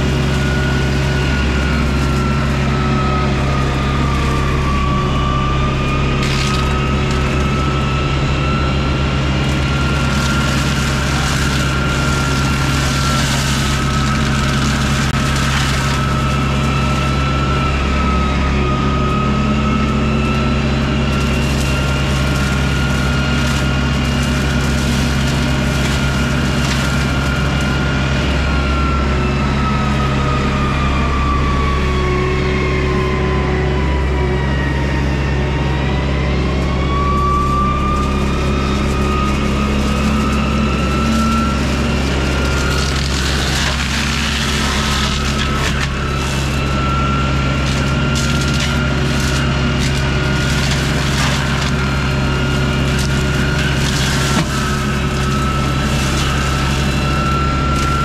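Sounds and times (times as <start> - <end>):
wood cracking in mulcher: 0.0 - 30.8, 36.6 - 58.0
excavator diesel drone: 0.0 - 58.0
high mechanical whine: 0.0 - 58.0.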